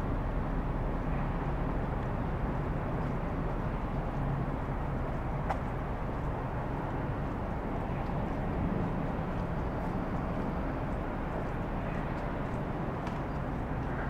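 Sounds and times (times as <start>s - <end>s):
distant city traffic rumble: 0.0s - 14.0s.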